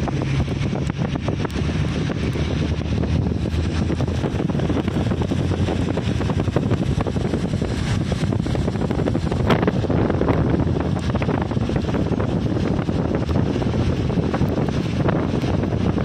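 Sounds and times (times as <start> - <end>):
car driving on wet road: 0.0 - 16.0
wind buffeting microphone: 0.0 - 16.0.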